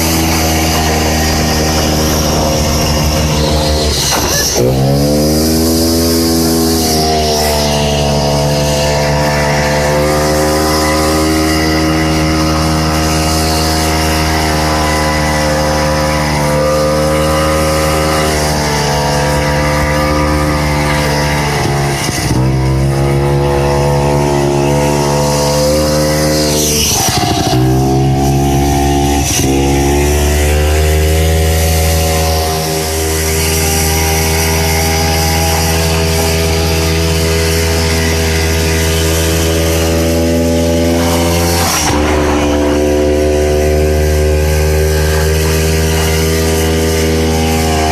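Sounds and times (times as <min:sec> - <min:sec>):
snowmobile engine running: 0:00.0 - 0:47.9.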